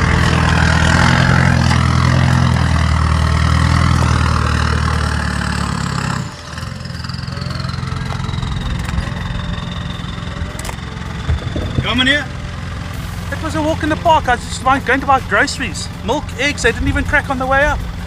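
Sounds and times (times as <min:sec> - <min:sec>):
off-road vehicle engine under load: 0:00.0 - 0:18.0.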